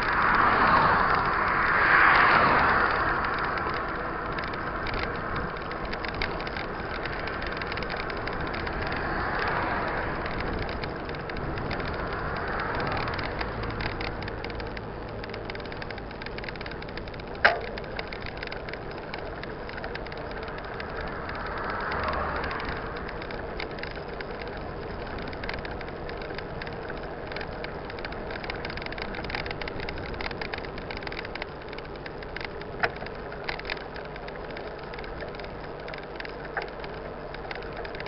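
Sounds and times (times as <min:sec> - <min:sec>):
bike tyre and rattle noise: 0:00.0 - 0:38.0.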